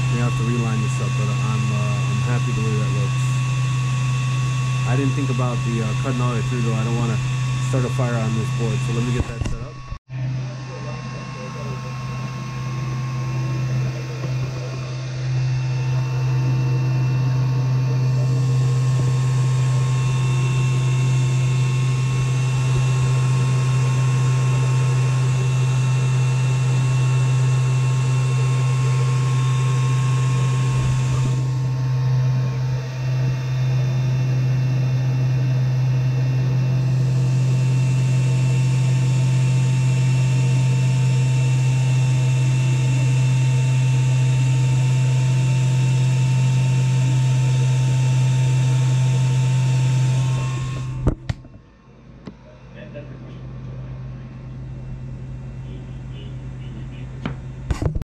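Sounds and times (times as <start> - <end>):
laser cutter fan and pump hum: 0.0 - 58.0.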